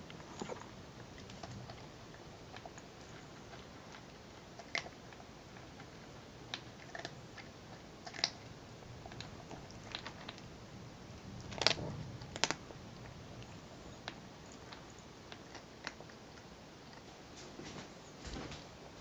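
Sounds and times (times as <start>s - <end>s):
cat crunching dry kibble: 0.0s - 17.1s.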